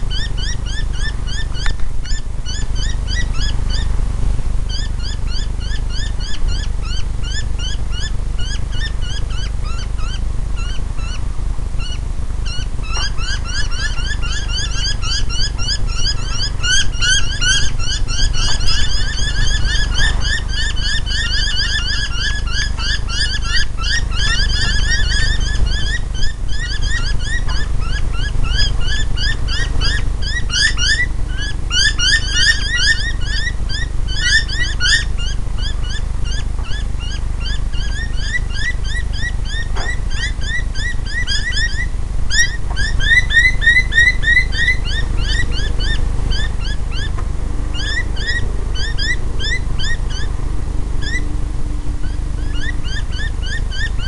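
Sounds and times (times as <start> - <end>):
small birds chirping: 0.0 - 50.4, 51.0 - 51.4, 52.0 - 54.0
steady low rumble: 0.0 - 54.0.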